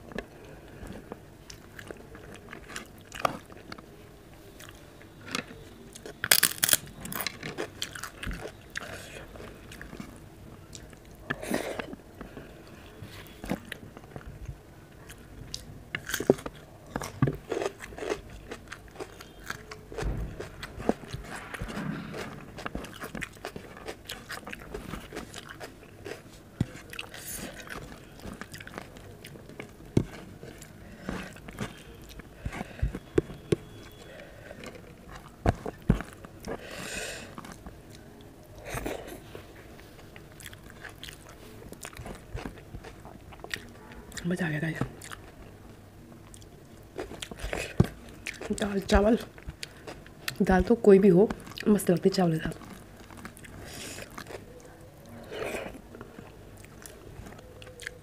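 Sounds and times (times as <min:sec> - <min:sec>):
person chewing food: 0:00.0 - 0:04.0, 0:04.6 - 0:44.3, 0:44.9 - 0:45.5, 0:46.2 - 0:50.4, 0:51.2 - 0:51.8, 0:52.5 - 0:58.0.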